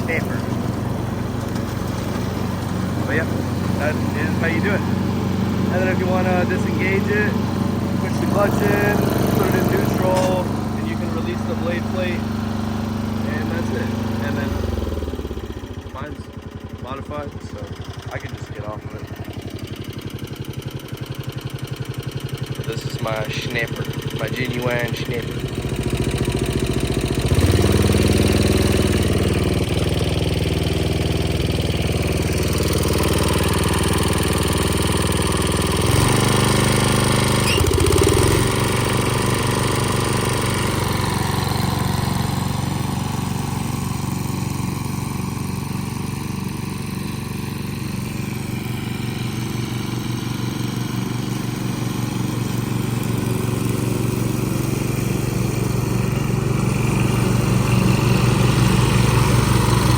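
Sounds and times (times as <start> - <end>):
mower engine running: 0.0 - 59.9.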